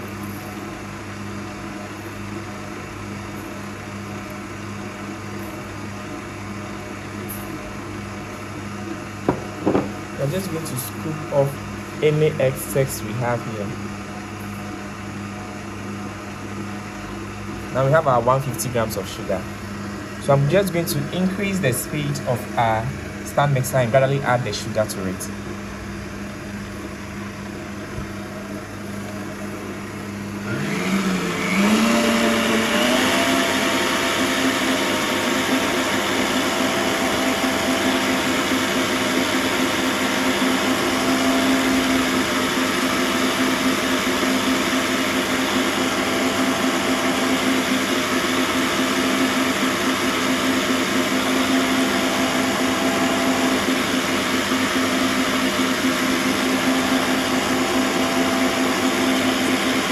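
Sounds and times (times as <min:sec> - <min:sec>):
stand mixer motor whine: 0:00.0 - 0:59.9.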